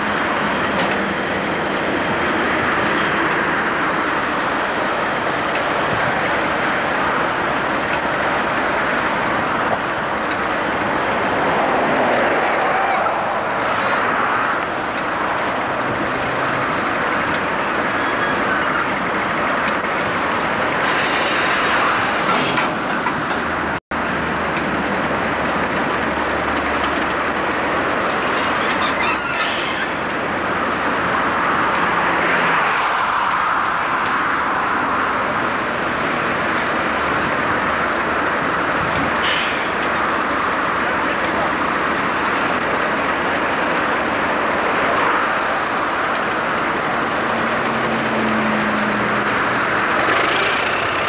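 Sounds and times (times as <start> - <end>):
diesel locomotive engines idling: 0.0 - 32.1, 33.0 - 51.0.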